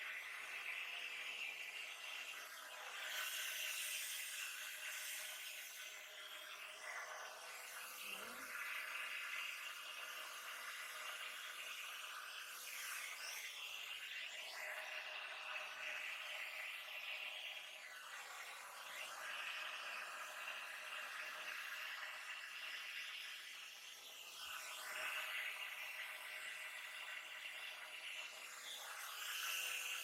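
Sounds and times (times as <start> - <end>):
hair dryer whirring: 0.0 - 30.0.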